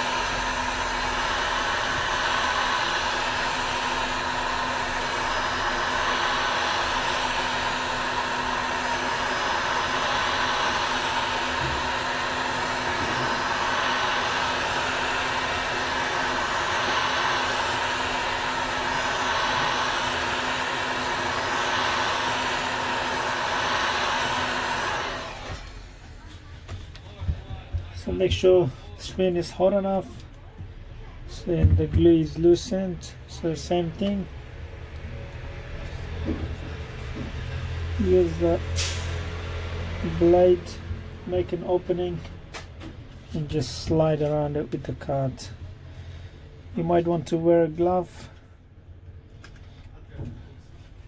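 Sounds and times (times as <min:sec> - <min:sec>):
heat gun fan blowing: 0:00.0 - 0:30.4, 0:31.2 - 0:50.2.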